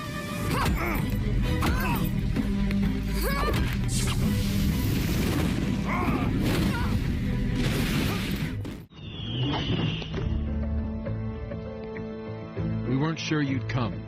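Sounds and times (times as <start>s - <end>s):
dramatic film score: 0.0s - 14.0s.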